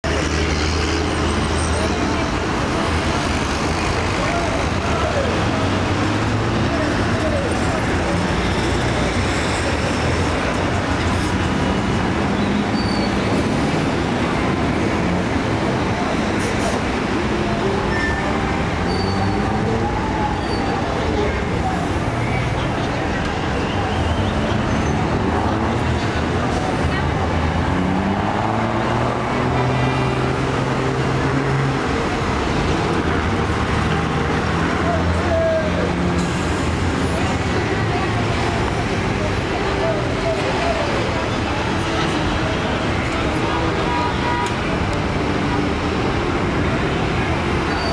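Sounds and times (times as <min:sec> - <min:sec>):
heavy road traffic rumble: 0:00.0 - 0:47.9.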